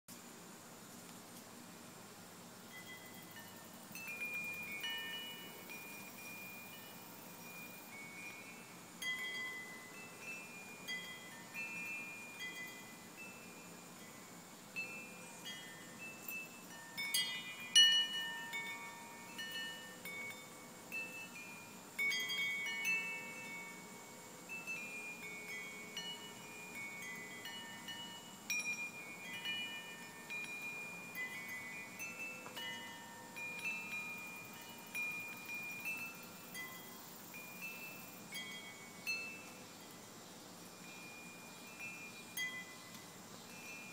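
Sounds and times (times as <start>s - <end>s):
metal wind chime tinkling: 2.7s - 43.9s.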